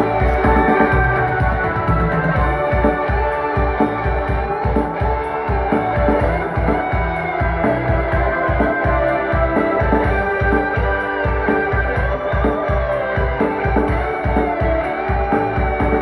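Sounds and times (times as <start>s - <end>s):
music with fast bass beat: 0.0s - 16.0s.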